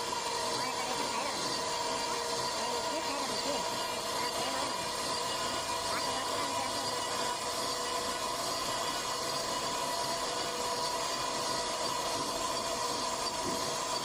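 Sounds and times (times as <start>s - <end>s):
cnc router spindle whine: 0.0s - 14.0s.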